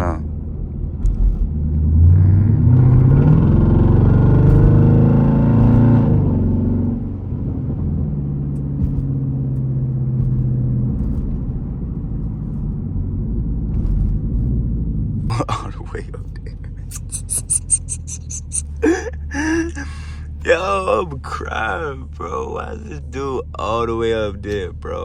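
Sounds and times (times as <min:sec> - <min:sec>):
car engine accelerating: 0:00.3 - 0:25.0.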